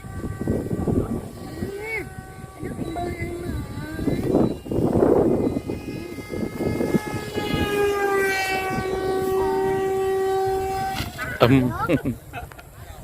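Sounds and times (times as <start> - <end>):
model airplane motor droning: 0.0 - 11.9.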